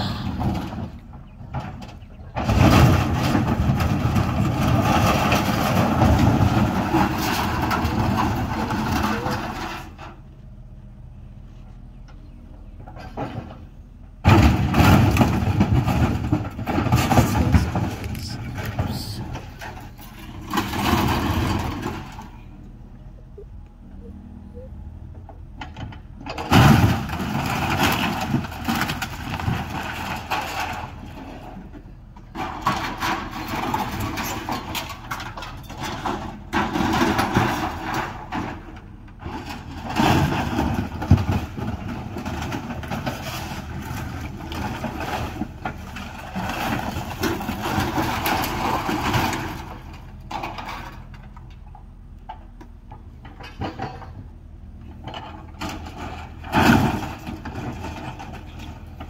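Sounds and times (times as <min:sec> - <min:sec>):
sheet metal and timber crunching: 0:00.0 - 0:10.2, 0:12.8 - 0:23.6, 0:25.2 - 0:59.0
excavator engine running: 0:00.0 - 0:59.0.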